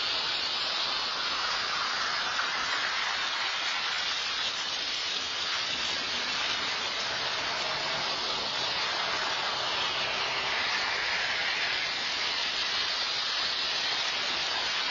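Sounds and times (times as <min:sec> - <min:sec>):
rain on wet street: 0:00.0 - 0:14.9.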